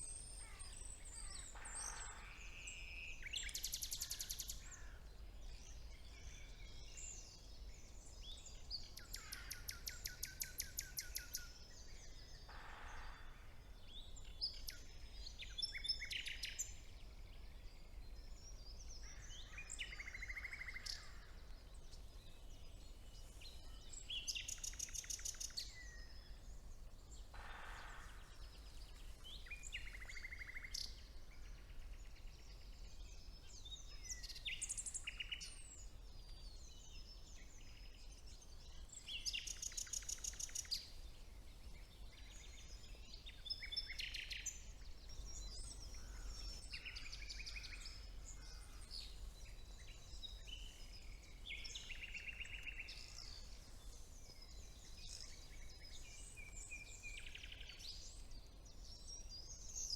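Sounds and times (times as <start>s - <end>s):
bird songs of fast repeated notes: 0.0s - 59.9s
songbirds singing: 0.0s - 59.9s.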